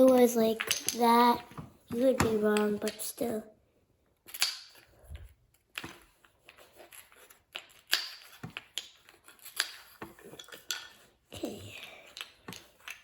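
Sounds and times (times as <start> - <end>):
plastic toys clicking and tapping: 0.0 - 3.3, 4.2 - 13.0.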